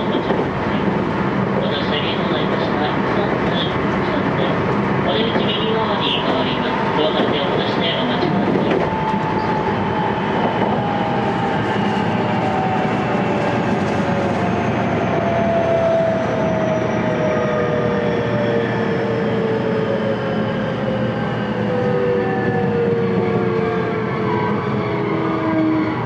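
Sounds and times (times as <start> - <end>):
wheels rumbling on rails: 0.0 - 23.9.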